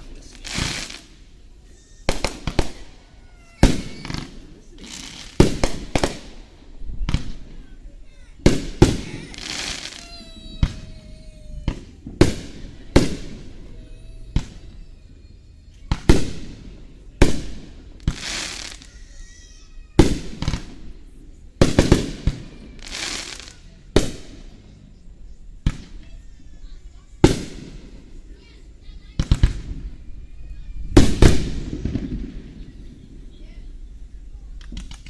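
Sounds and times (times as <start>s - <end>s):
fireworks booming: 0.0s - 35.0s
hissing crackle of fireworks: 0.0s - 35.0s.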